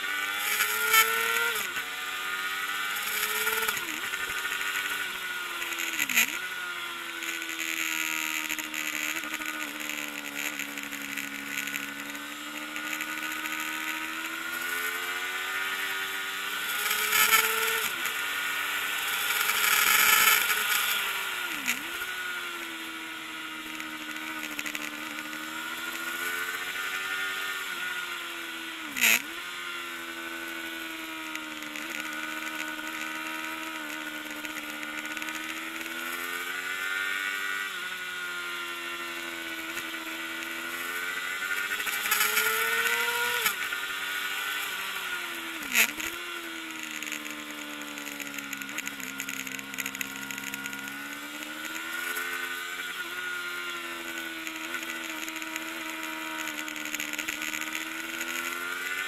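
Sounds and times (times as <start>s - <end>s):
racing motorcycle engine at high revs: 0.0s - 59.0s.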